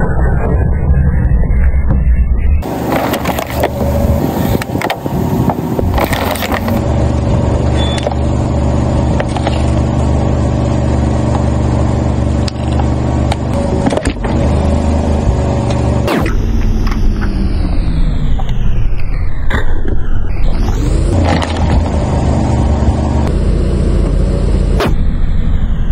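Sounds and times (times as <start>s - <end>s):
sharp crackles and clicks: 0.0s - 10.2s, 12.4s - 25.6s
car engine idling: 2.6s - 18.8s, 20.5s - 25.9s.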